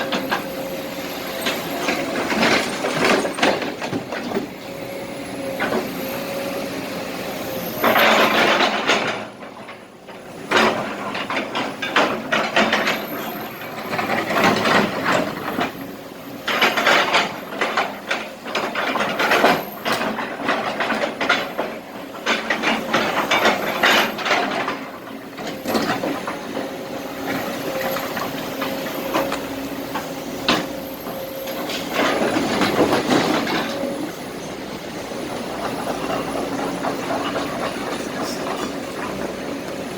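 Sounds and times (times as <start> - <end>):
asphalt and rocks scraping and rattling: 0.0 - 39.9
excavator engine and hydraulics hum: 0.0 - 39.9.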